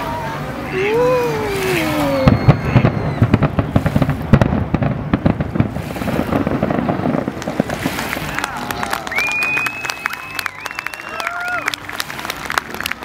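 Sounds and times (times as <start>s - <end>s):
fireworks bursting: 0.9s - 13.0s.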